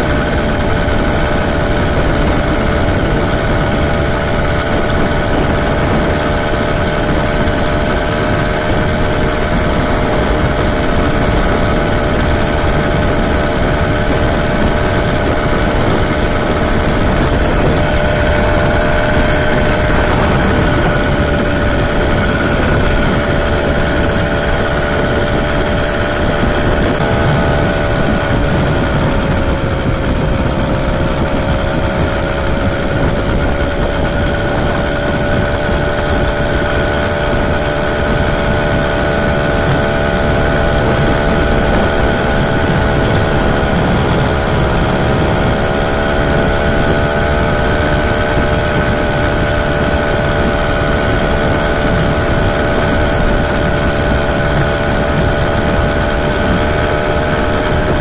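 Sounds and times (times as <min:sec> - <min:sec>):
two-stroke engine running: 0:00.0 - 0:58.0
wind noise: 0:00.0 - 0:58.0.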